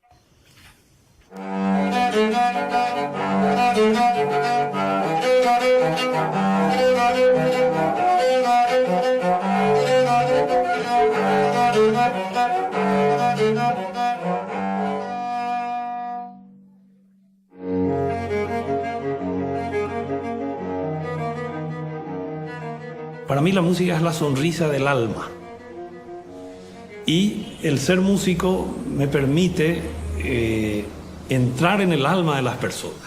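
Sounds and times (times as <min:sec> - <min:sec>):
bowed cello melody: 0:01.2 - 0:16.9, 0:17.5 - 0:33.0.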